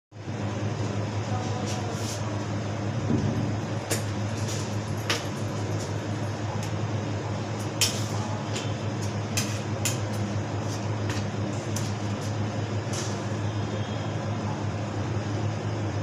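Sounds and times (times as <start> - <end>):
low motor hum: 2.5 - 16.0.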